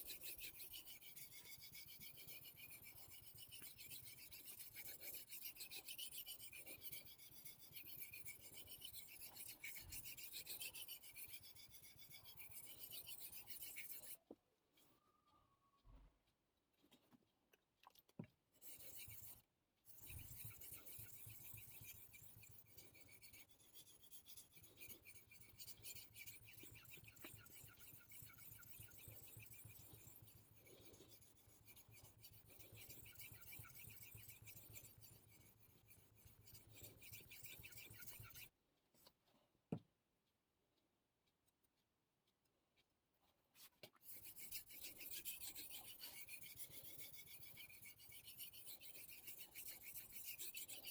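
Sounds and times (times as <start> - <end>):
knife rasping on whetstone: 0.0 - 14.2, 18.6 - 38.5, 43.6 - 50.9.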